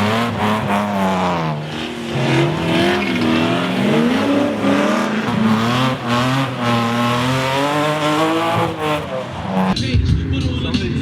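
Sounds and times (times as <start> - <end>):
car engines revving: 0.0 - 9.8.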